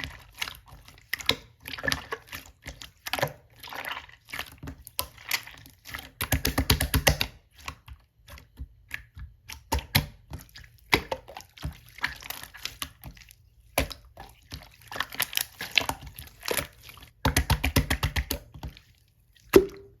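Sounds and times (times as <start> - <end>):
slime squishing with wet clicks: 0.0 - 20.0.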